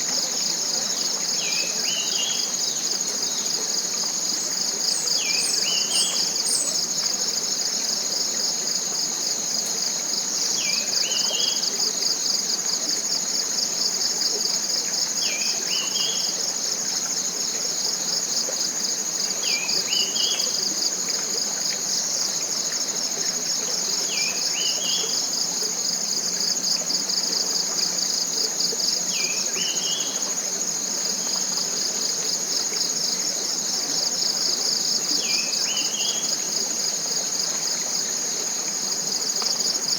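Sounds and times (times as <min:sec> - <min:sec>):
insects pulsing trill: 0:00.0 - 0:39.9.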